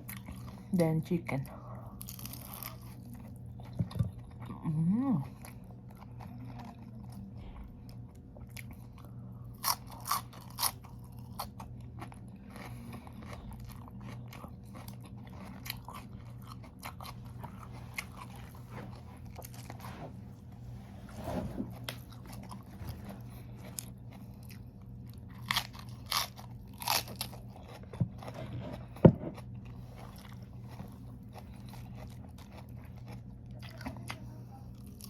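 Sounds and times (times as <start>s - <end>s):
crunchy chewing: 0.0s - 0.7s, 1.9s - 35.0s
steady low hum: 0.0s - 35.0s.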